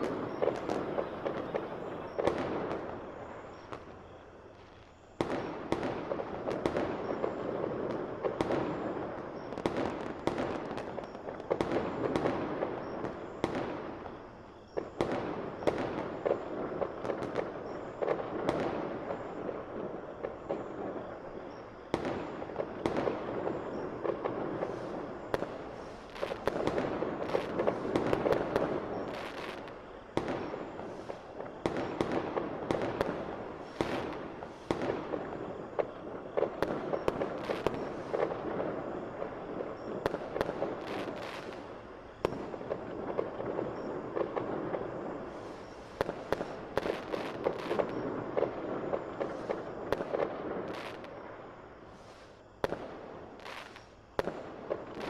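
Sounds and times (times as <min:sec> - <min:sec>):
fireworks crackling and popping: 0:00.0 - 0:55.0.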